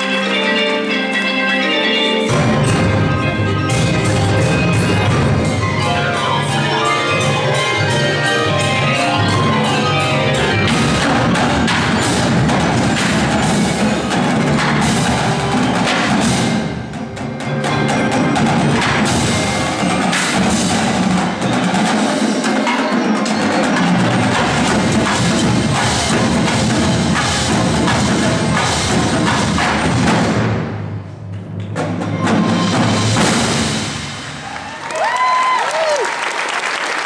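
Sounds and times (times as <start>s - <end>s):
marimbas ringing: 0.0s - 30.5s
snare tenor and bass drums: 2.3s - 31.1s, 31.7s - 34.4s.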